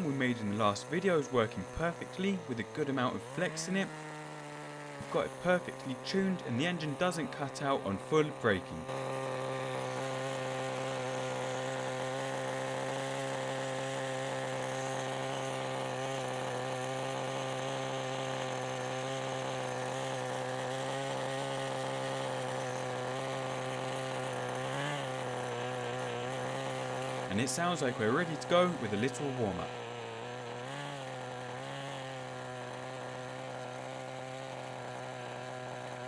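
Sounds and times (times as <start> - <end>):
model car engine idling: 0.0 - 36.0.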